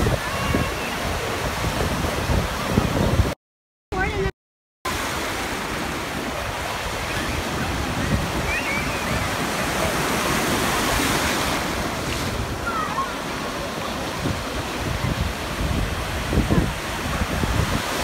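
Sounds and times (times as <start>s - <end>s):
ocean waves breaking: 0.0s - 3.4s, 4.9s - 18.0s.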